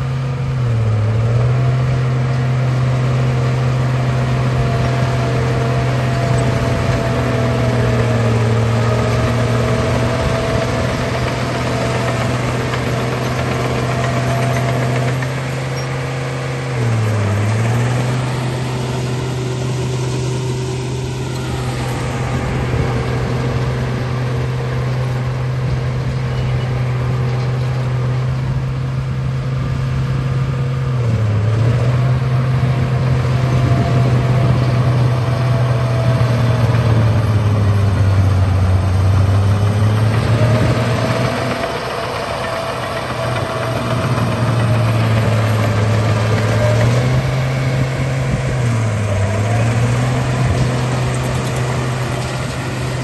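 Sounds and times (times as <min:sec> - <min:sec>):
bulldozer engine humming: 0:00.0 - 0:53.0.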